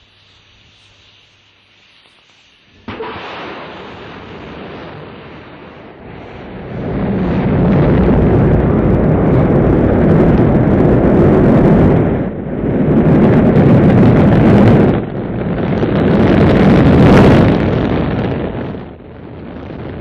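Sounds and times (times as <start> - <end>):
rocket engines rumbling: 0.0 - 20.0.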